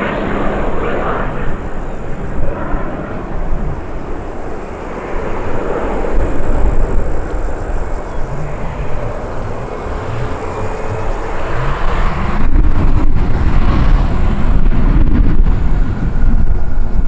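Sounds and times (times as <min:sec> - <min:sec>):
jet airliner engines rumbling: 0:00.0 - 0:17.0.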